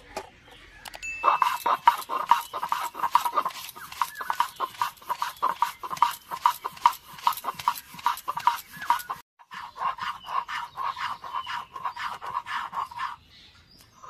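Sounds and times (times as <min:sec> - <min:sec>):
stone roller grinding lentils: 0:01.2 - 0:13.2.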